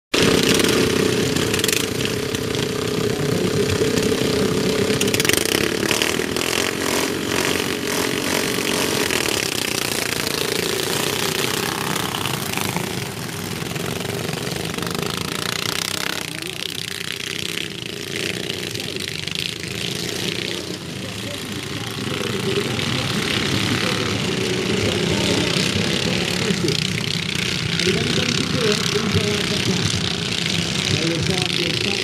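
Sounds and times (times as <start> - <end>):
lawnmower engines revving: 0.1 - 32.0.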